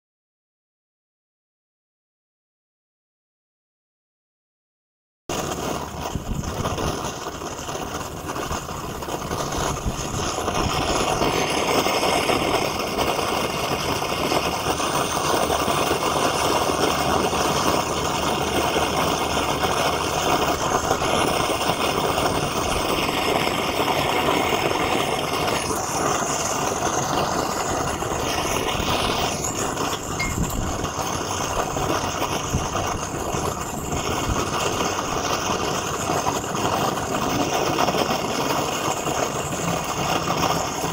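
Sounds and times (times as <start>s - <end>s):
gas torch flame rushing: 5.3s - 40.9s.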